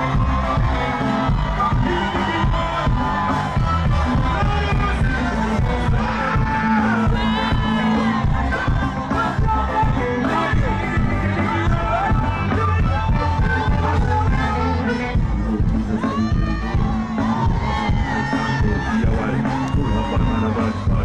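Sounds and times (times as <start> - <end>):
crowd noise: 0.0 - 21.0
music with heavy bass beat: 0.0 - 21.0
person singing: 0.0 - 21.0.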